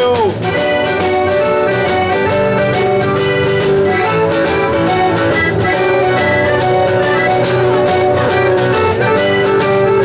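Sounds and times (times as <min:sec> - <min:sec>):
strummed guitars: 0:00.0 - 0:10.0
accordion playing tune: 0:00.4 - 0:10.0.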